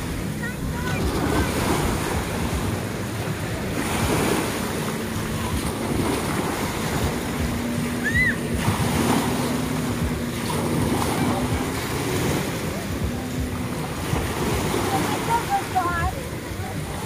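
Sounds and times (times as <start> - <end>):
small waves breaking on sand: 0.0 - 17.0
wind buffeting microphone: 0.0 - 17.0.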